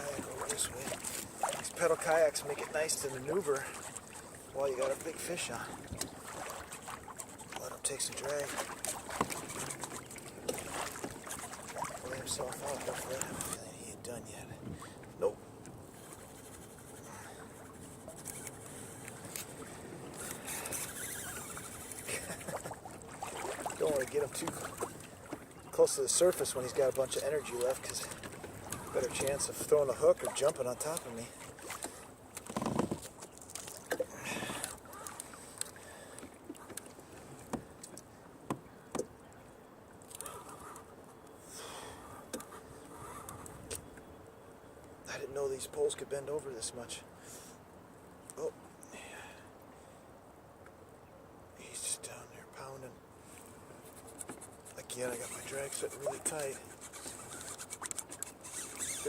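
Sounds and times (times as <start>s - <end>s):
water around a kayak: 0.0s - 59.0s
faint background hiss: 9.8s - 59.0s.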